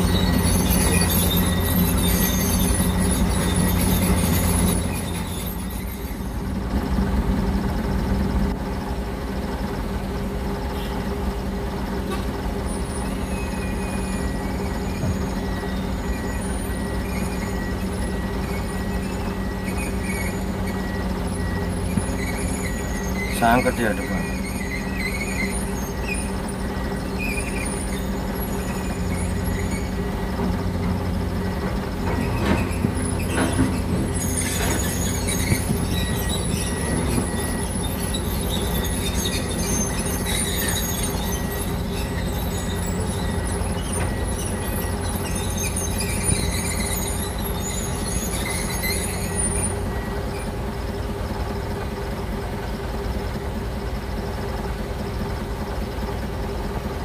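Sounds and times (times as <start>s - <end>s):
excavator diesel engine running: 0.0s - 57.0s
steel tracks squealing and clanking: 0.0s - 57.0s.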